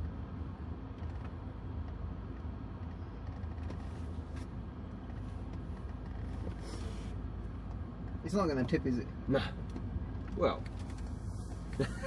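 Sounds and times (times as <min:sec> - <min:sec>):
faint tyre noise: 0:00.0 - 0:12.0
low engine hum from inside car: 0:00.0 - 0:12.0.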